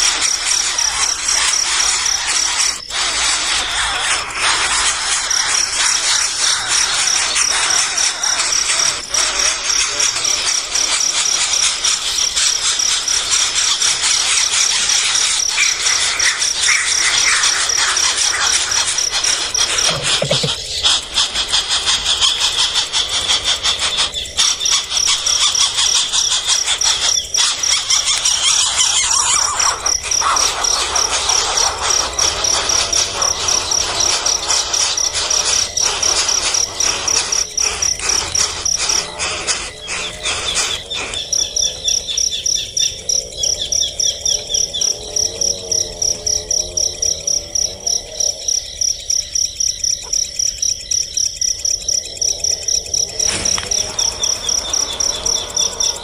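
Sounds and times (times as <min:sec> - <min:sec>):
nestling birds begging squeals: 0:00.0 - 0:56.0.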